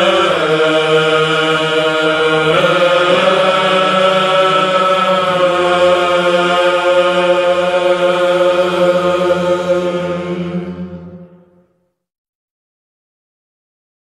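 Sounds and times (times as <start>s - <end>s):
low vocal drone: 0.0s - 11.8s
voices chanting a long note: 0.0s - 11.8s.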